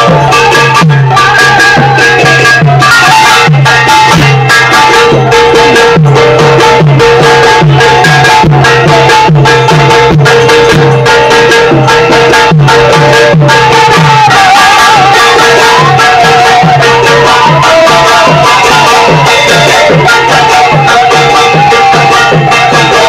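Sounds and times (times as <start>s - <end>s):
hand cymbal clashes: 0.0s - 23.0s
wavering melody line: 0.0s - 23.0s.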